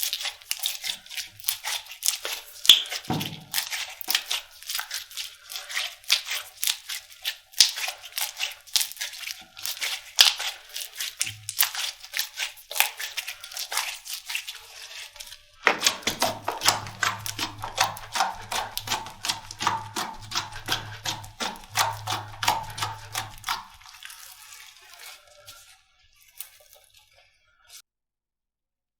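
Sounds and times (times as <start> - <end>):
slime crackling and popping: 0.0 - 5.2, 6.0 - 14.6, 15.3 - 25.6.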